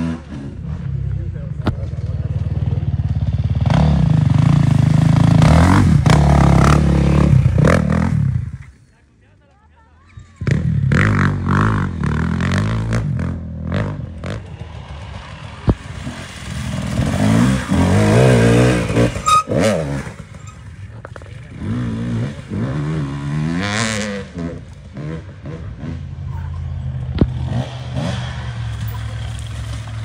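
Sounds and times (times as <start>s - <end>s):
dirt bike engines revving: 0.0s - 9.2s, 10.2s - 30.0s.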